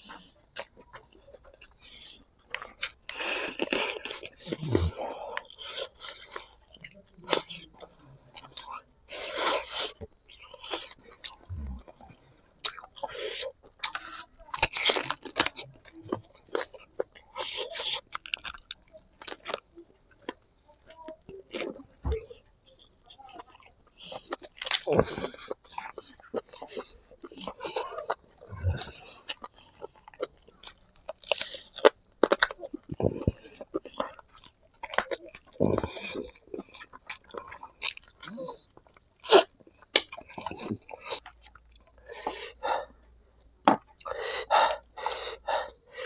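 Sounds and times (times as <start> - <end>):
chewing and biting: 0.0 - 42.9.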